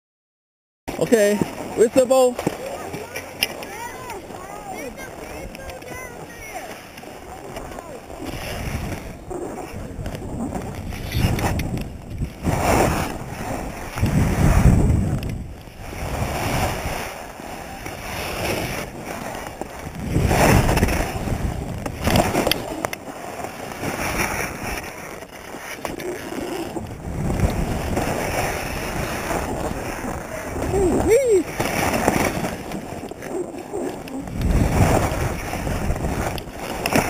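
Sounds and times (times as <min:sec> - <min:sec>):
skis scraping through snow: 0:00.9 - 0:37.0
wind on microphone: 0:00.9 - 0:37.0.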